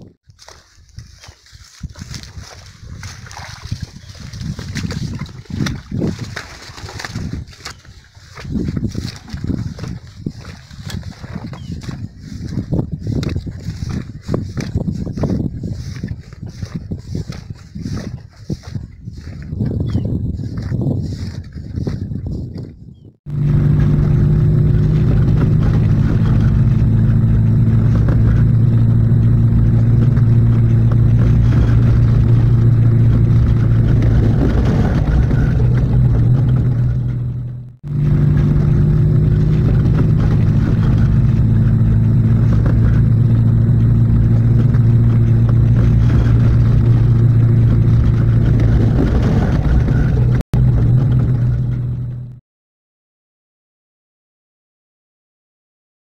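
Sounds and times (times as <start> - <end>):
car engine and road noise: 0.0 - 22.0, 23.2 - 52.4.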